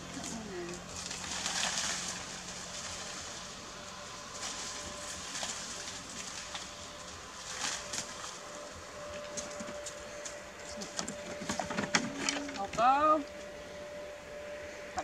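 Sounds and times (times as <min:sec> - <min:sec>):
leaves and branches rustling: 0:00.0 - 0:15.0.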